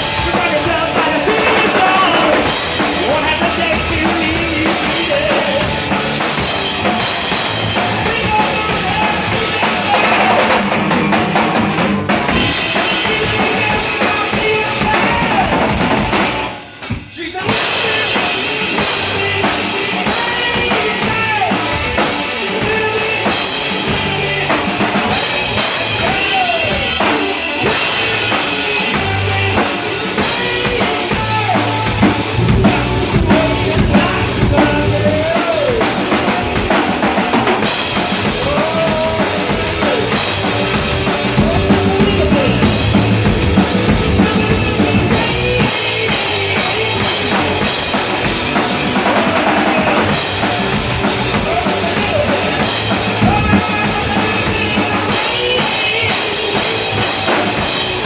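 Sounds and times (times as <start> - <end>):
drum-driven music: 0.0 - 58.0.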